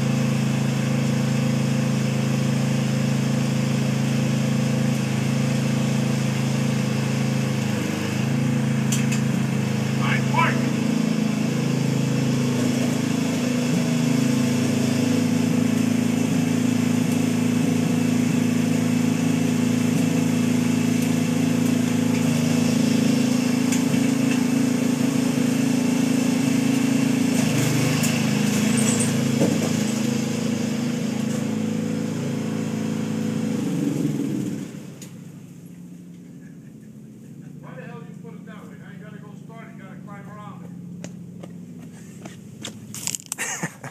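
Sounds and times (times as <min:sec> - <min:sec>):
lawn tractor engine running: 0:00.0 - 0:43.9.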